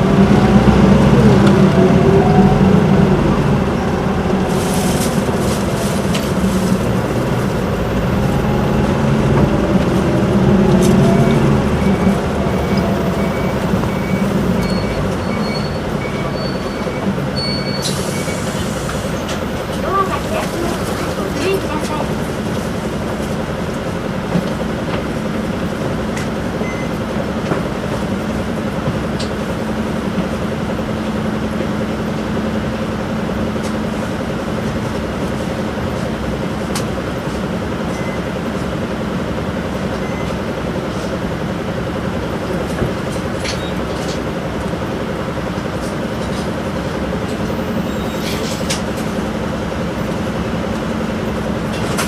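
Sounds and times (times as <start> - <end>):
bus diesel engine idling: 0.0 - 52.0.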